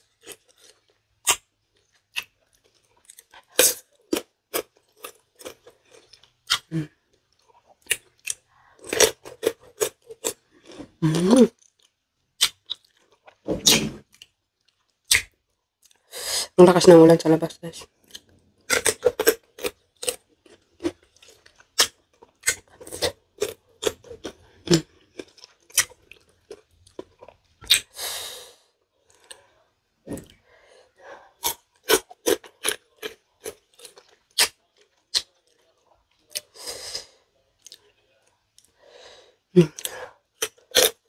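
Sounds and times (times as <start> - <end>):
crunching and chewing: 0.0 - 16.1, 17.8 - 28.0, 31.3 - 36.6, 37.4 - 38.8, 39.7 - 41.0.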